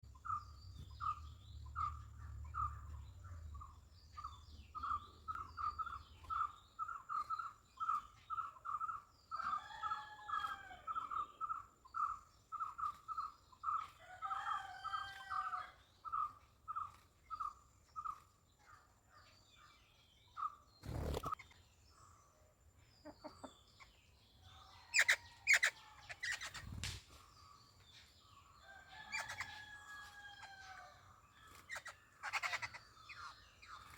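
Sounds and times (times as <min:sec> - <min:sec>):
small birds calling: 0:00.0 - 0:33.9.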